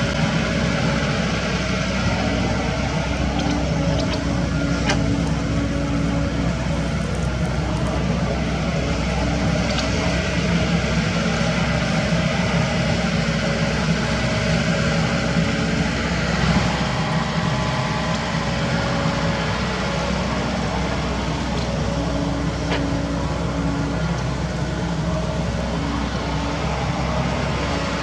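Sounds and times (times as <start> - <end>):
excavator diesel engine running: 0.0 - 28.0
high steady whine: 0.0 - 28.0.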